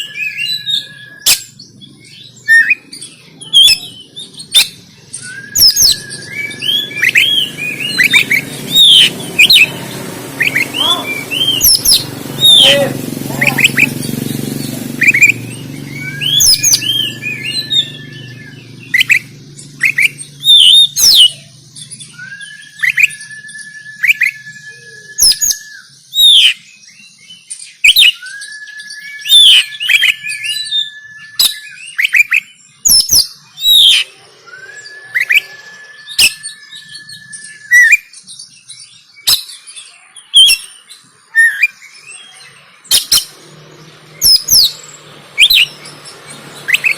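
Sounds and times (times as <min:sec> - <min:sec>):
long level bird whistle: 0:00.0 - 0:12.8, 0:13.4 - 0:43.3, 0:44.0 - 0:46.9
bird singing chirps and whistles: 0:00.0 - 0:46.9.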